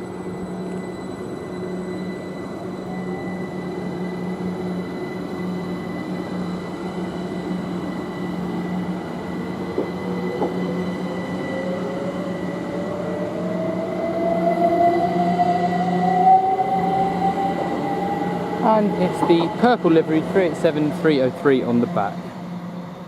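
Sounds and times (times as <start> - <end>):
electric train motor whine: 0.0 - 23.0.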